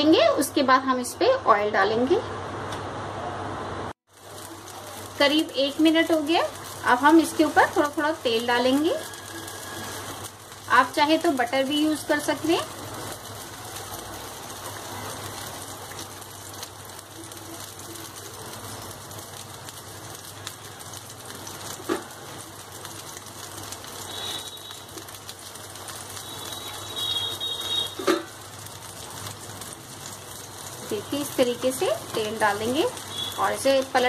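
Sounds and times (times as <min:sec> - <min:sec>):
food sizzling in oil: 0:03.9 - 0:34.0.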